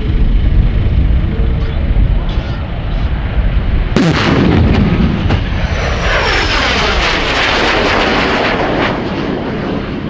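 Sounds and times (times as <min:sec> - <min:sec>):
jet aircraft roar passing: 0:00.0 - 0:10.0.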